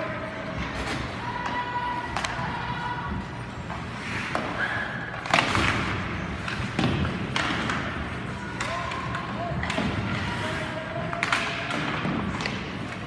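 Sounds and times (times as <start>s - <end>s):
background din of hall: 0.0s - 13.0s.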